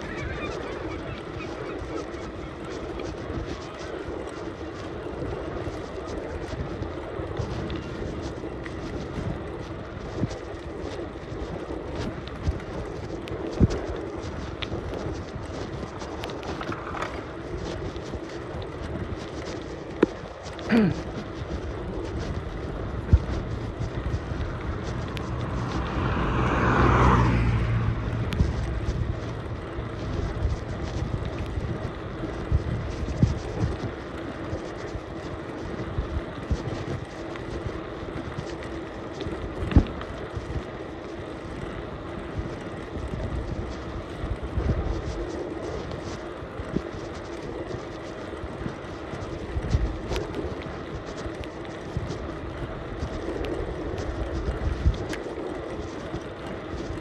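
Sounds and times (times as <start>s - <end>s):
bicycle tyre and road rumble: 0.0s - 57.0s.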